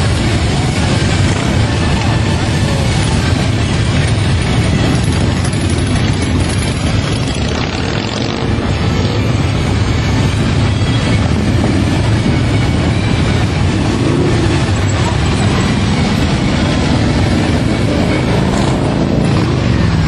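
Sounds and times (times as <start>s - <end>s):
motorcycle engine rumble: 0.0s - 20.0s
rushing noise: 0.0s - 20.0s.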